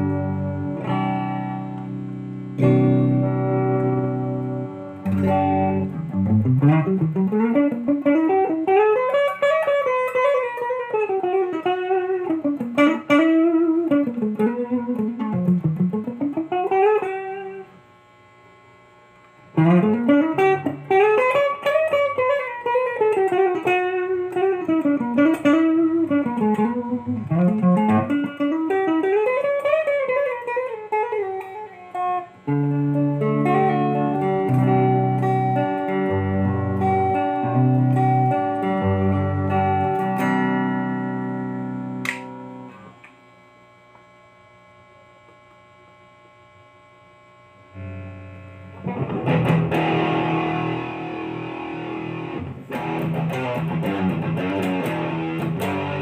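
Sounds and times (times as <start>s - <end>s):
electric guitar lead line: 0.0s - 56.0s.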